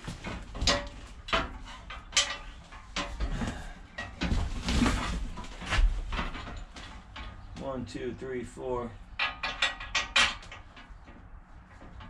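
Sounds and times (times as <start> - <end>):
light metal rattling: 0.0 - 7.6, 9.0 - 12.0
metal clanks and knocks: 0.0 - 7.6, 9.0 - 12.0.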